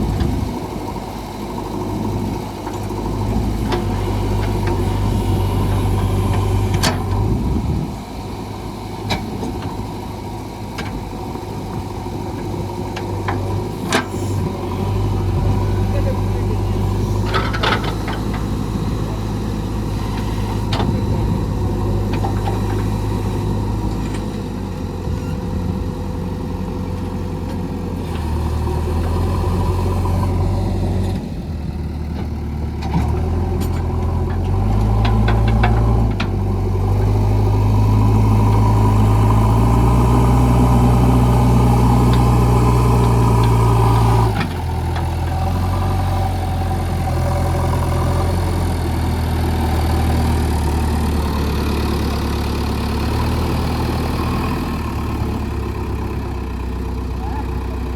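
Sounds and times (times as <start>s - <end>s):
diesel engine running and revving: 0.0s - 57.9s.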